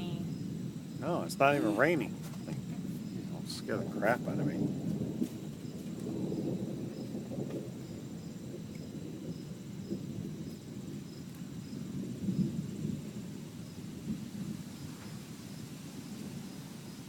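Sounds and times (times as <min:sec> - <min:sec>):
rolling thunder: 0:00.0 - 0:17.0.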